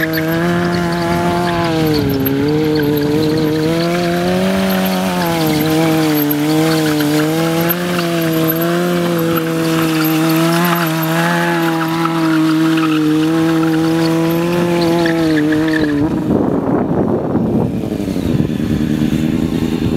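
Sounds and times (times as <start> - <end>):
tyre spinning and squealing: 0.0 - 16.2
motorcycle engine at high revs: 0.0 - 19.9.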